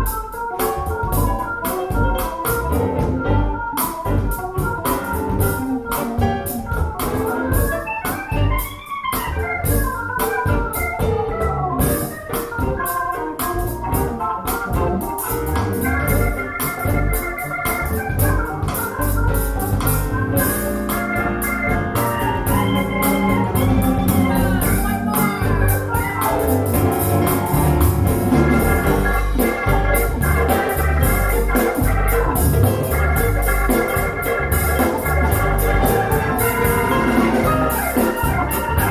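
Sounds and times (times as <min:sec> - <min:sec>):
organ-like keyboard music with beat: 0:00.0 - 0:38.9.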